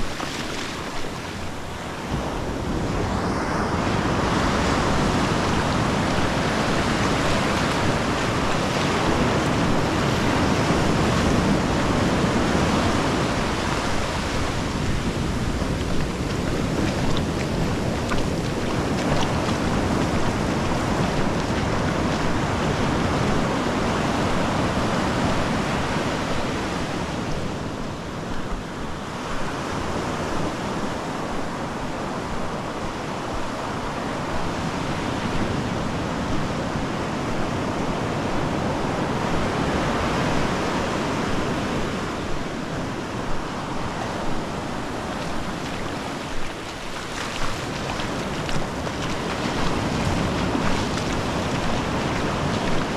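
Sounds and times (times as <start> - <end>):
ocean surf breaking on beach: 0.0 - 52.9.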